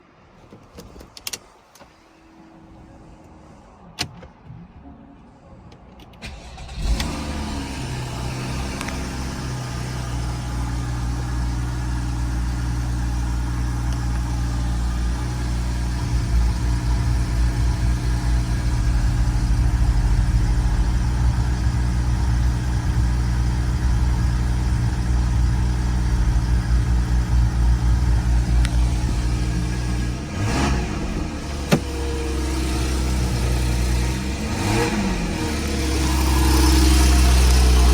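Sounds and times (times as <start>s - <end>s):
car engine starting and idling: 0.4s - 37.9s.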